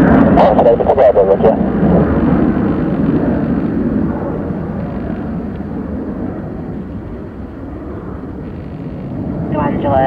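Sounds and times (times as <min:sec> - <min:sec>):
jet airliner engines roaring: 0:00.0 - 0:10.0.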